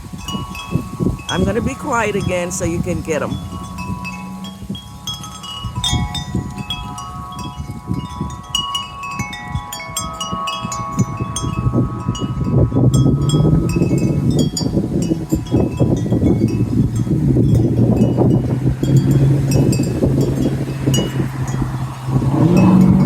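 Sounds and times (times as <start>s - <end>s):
road traffic rumble: 0.0s - 23.0s
wind chimes ringing: 0.0s - 23.0s.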